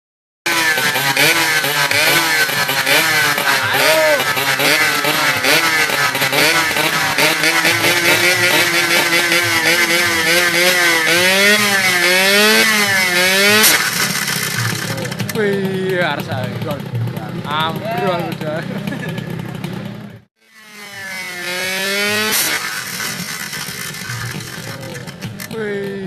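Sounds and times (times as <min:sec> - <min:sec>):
motorcycle engine revving: 0:00.5 - 0:26.0.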